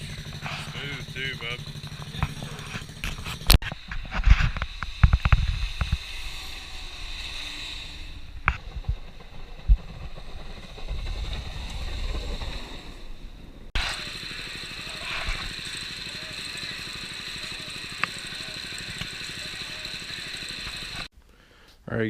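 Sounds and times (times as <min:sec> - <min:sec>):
muffled mini bike engine: 0:00.0 - 0:21.1.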